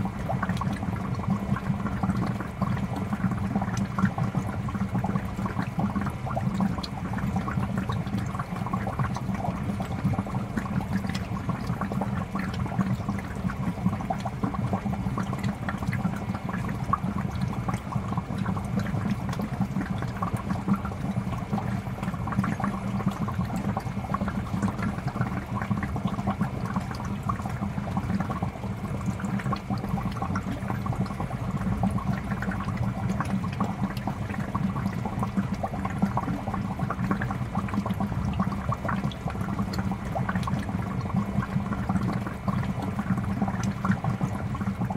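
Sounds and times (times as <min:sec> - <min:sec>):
aquarium water bubbling: 0:00.0 - 0:44.9.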